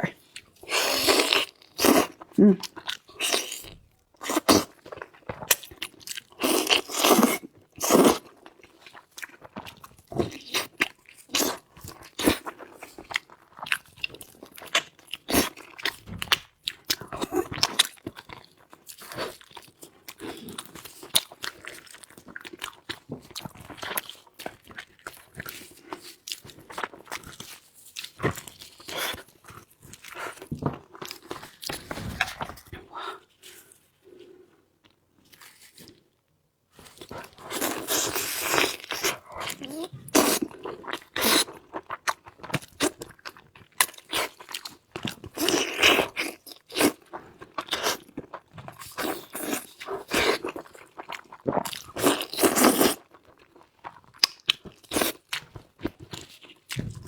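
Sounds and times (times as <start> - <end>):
person chewing meat: 0.0 - 36.1, 36.8 - 57.0.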